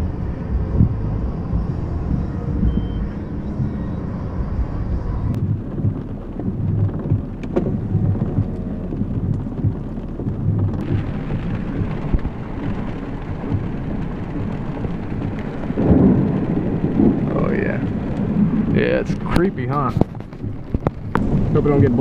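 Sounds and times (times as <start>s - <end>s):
rain falling: 0.0s - 22.0s
wind buffeting microphone: 0.0s - 22.0s.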